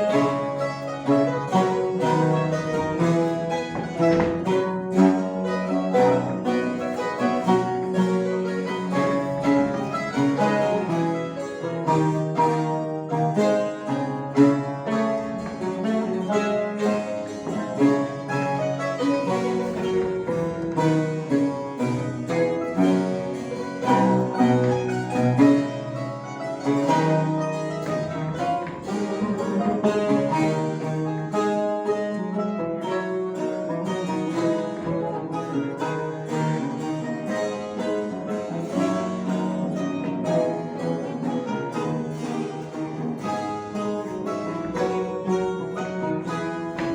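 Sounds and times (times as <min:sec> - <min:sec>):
mandolin ensemble playing: 0:00.0 - 0:46.9.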